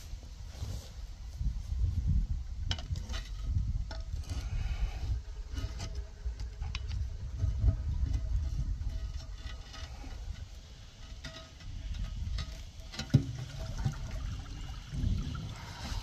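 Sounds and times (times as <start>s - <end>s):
continuous low rumble: 0.0s - 16.0s.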